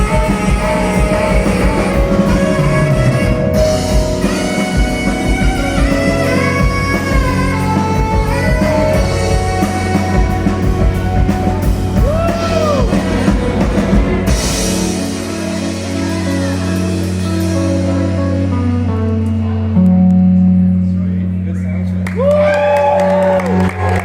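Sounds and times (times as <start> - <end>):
drum kit: 0.0 - 20.4
electric guitar: 0.0 - 24.0.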